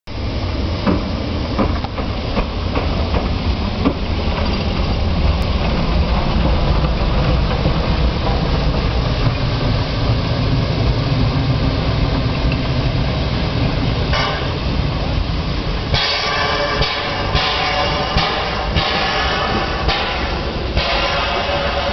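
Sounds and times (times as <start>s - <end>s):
steam locomotive rumbling: 0.1s - 21.9s.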